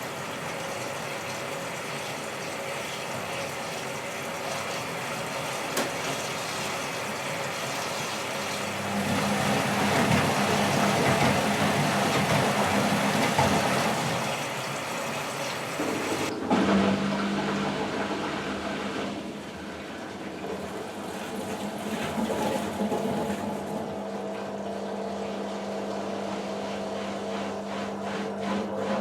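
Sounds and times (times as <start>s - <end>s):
washing machine running: 0.0s - 29.0s.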